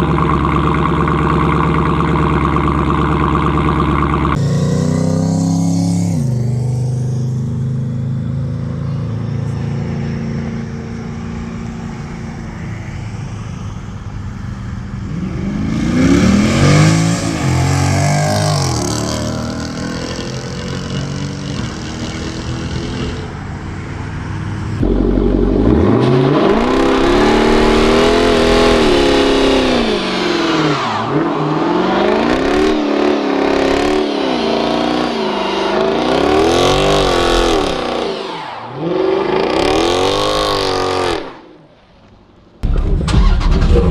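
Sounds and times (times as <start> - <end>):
car exhaust revving and accelerating: 0.0 - 41.6.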